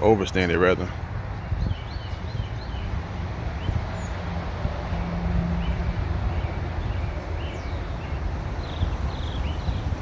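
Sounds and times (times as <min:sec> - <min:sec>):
wind rumbling on microphone: 0:01.0 - 0:10.0.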